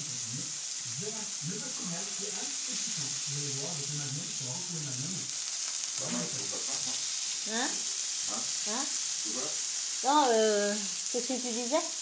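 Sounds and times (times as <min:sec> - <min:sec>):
low voices: 0:00.0 - 0:05.3, 0:06.0 - 0:10.8
vegetables sizzling on a griddle: 0:00.0 - 0:12.0.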